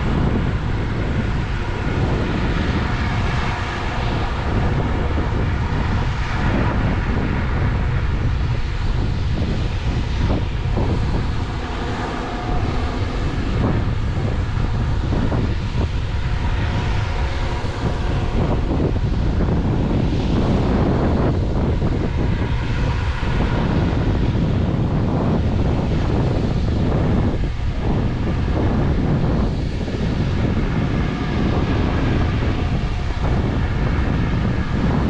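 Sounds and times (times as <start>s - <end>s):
diesel engine running under load: 0.0s - 35.0s
wind buffeting microphone: 0.0s - 35.0s.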